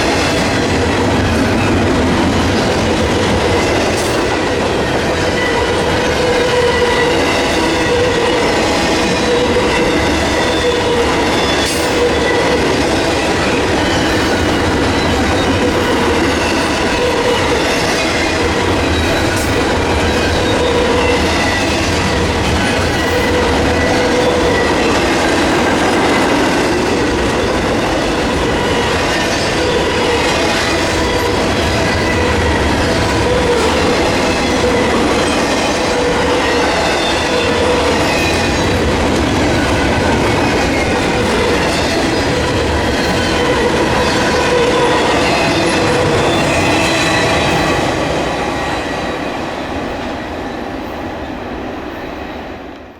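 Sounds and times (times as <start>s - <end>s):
train wheels on rails: 0.0s - 52.9s.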